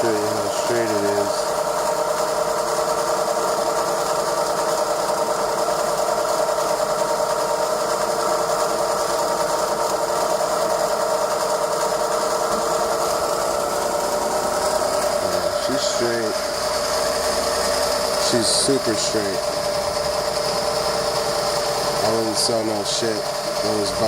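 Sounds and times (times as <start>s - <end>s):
lathe motor whirring: 0.0s - 24.0s.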